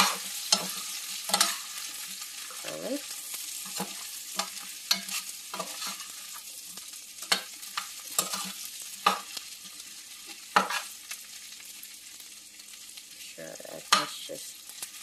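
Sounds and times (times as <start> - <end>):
metal spoon scraping a pan: 0.0 - 11.2, 13.6 - 15.0
food sizzling in a pan: 0.0 - 15.0.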